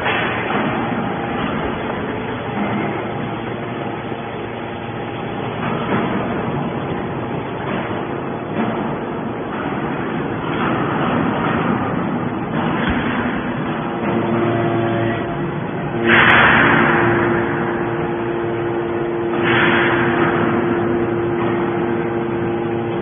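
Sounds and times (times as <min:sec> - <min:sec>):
hydraulic power unit droning: 0:00.0 - 0:23.0.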